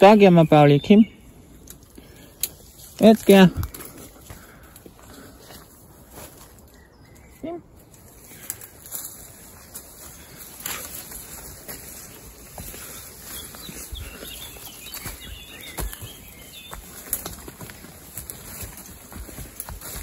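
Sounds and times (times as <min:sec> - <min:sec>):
rustling undergrowth: 0:00.0 - 0:20.0
donkey hooves on rough ground: 0:01.5 - 0:20.0.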